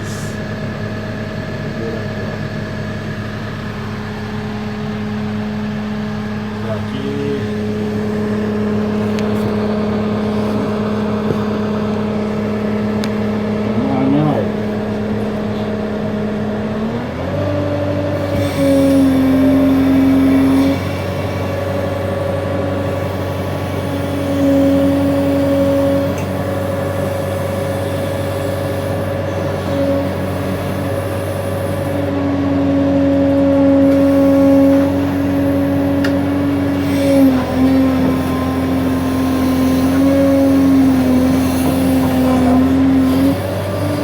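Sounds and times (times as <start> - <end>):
diesel engine revving: 0.0 - 44.0
hydraulic whine: 0.0 - 44.0.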